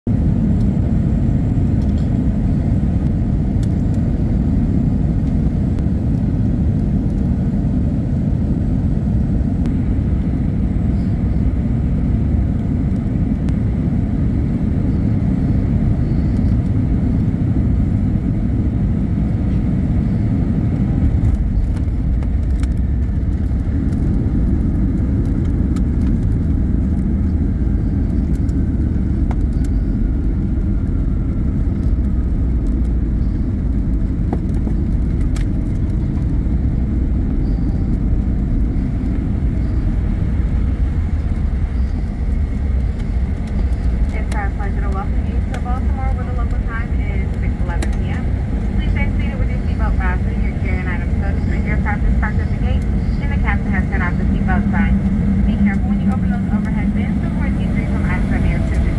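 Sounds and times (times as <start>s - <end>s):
airliner cabin rumble: 0.0s - 58.9s.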